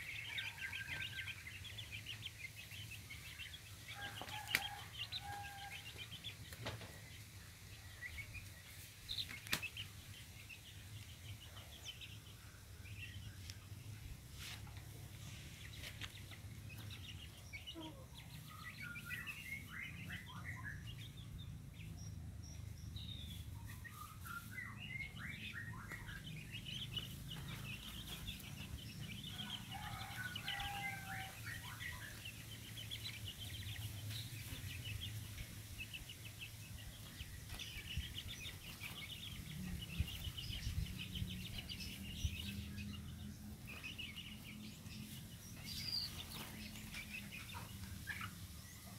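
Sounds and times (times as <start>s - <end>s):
chicks cheeping: 0.0s - 48.9s.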